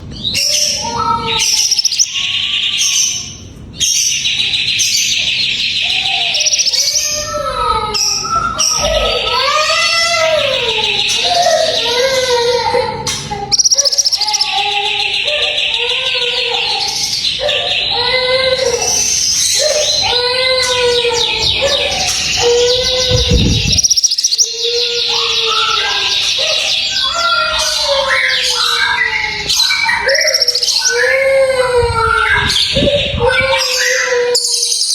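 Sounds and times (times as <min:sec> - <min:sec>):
songbird singing: 0:00.0 - 0:12.4, 0:13.0 - 0:34.9.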